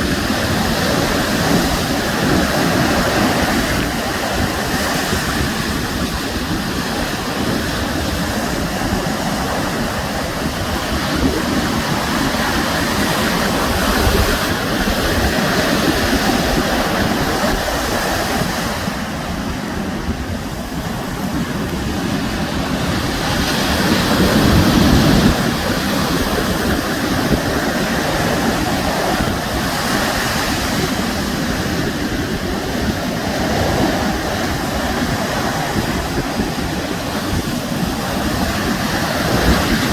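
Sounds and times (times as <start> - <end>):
sea waves washing onto shore: 0.0 - 39.9
wind buffeting microphone: 0.0 - 39.9.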